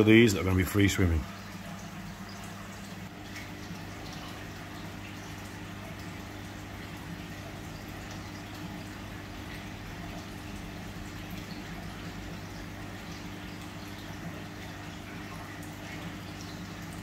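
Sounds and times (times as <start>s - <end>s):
fish tank pump hum: 0.0s - 17.0s.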